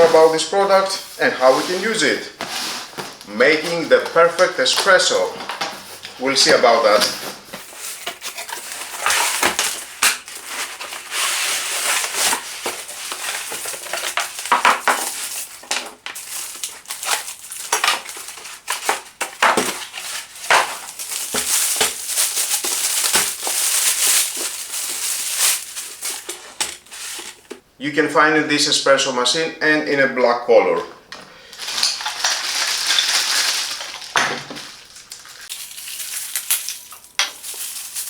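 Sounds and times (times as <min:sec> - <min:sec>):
plastic wrap crinkling: 0:00.0 - 0:27.6, 0:31.4 - 0:38.0.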